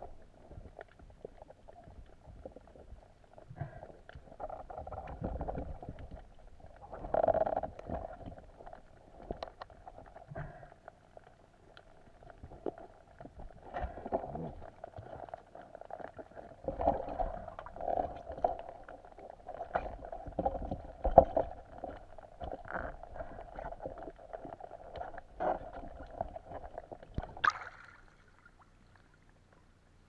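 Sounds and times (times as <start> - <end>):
muffled underwater water movement: 0.0 - 30.0
underwater clicks and knocks: 0.5 - 10.9, 11.7 - 27.6.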